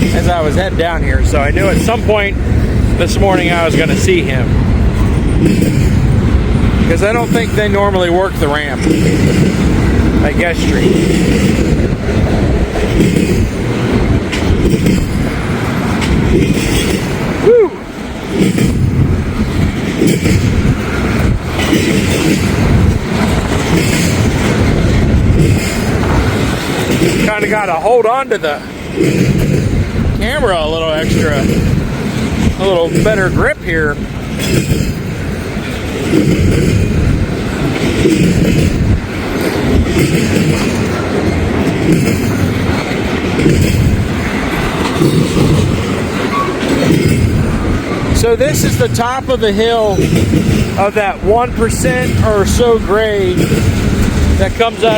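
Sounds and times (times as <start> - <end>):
freight train rolling past: 0.0 - 54.9
wind gusts buffeting microphone: 0.0 - 54.9.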